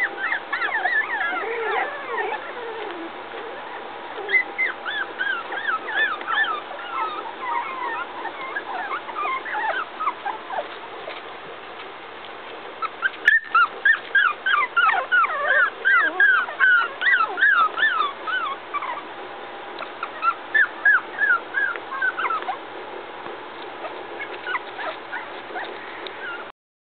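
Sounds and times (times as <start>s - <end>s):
puppies whimpering: 0.0s - 11.2s, 12.8s - 19.1s, 19.8s - 22.7s, 23.5s - 26.5s.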